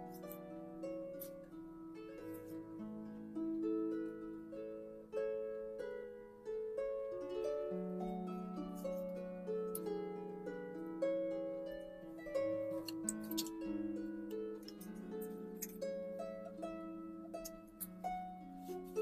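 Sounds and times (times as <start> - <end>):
plucked harp-like notes: 0.0 - 19.0.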